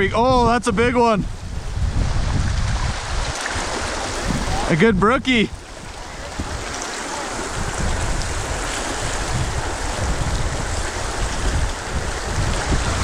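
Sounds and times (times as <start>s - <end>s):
water rushing over rocks: 1.3s - 13.0s.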